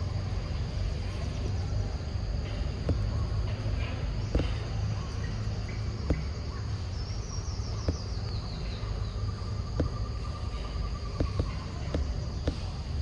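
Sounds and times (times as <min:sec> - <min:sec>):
insects droning high-pitched: 0:00.0 - 0:13.0.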